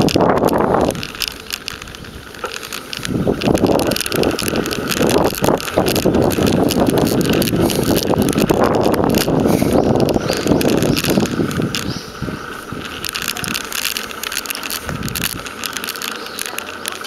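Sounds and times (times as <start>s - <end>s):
bicycle rattling over road: 0.0s - 17.0s.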